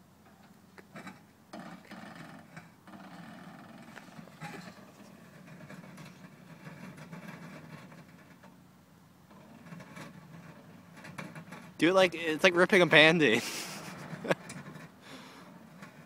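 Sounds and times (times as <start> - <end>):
car underside scraping metal ramps: 0.3 - 16.0.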